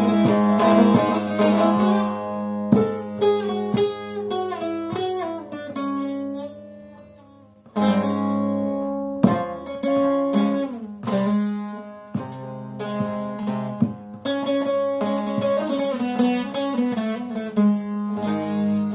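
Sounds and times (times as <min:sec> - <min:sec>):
lute strum: 0:00.0 - 0:18.9
plucked long-necked lute melody: 0:00.0 - 0:18.9.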